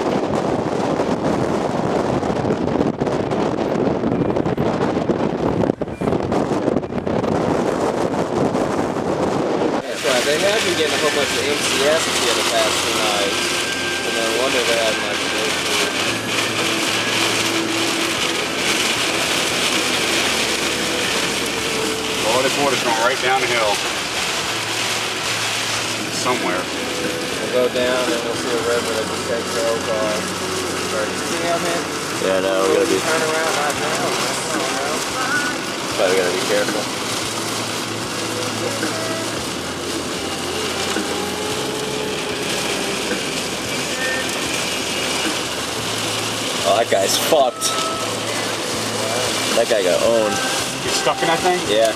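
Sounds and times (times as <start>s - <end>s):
low engine hum: 0.0s - 51.9s
rain and wet road hiss: 0.0s - 51.9s.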